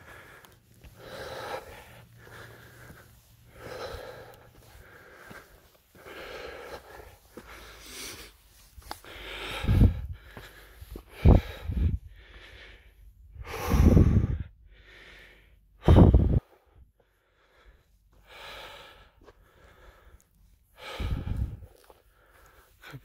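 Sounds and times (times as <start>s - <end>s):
person breathing heavily: 0.0s - 23.0s.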